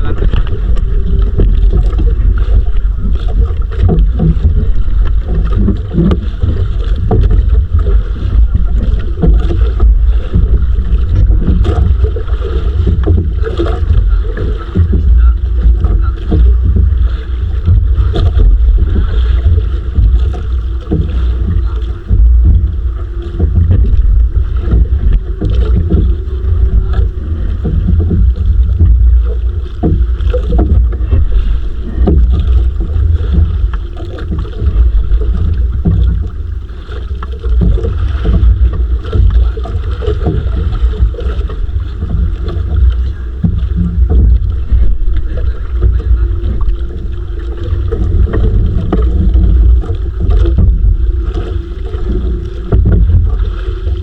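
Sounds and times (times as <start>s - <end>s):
faint steady hum: 0.0s - 54.0s
wind buffeting microphone: 0.0s - 54.0s.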